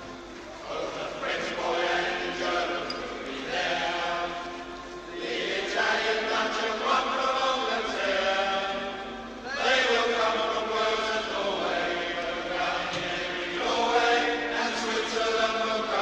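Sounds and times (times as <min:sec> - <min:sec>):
stadium crowd chanting: 0:00.0 - 0:16.0.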